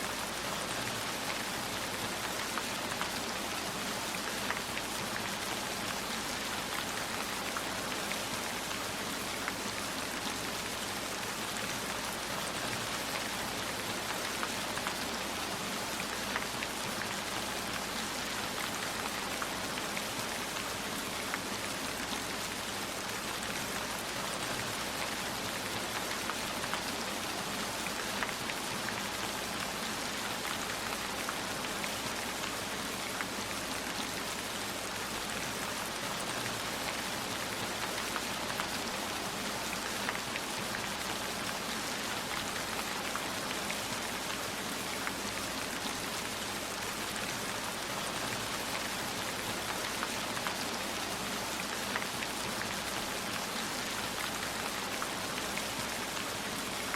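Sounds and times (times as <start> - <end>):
heavy rainfall: 0.0 - 56.9.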